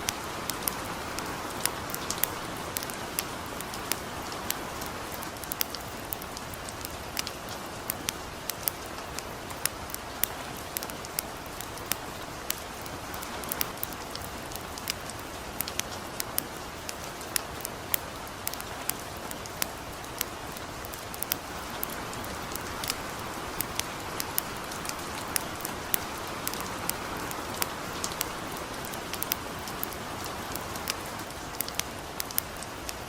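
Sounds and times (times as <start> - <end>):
campfire crackling pops: 0.0 - 33.0
gentle rain hiss: 0.0 - 33.0.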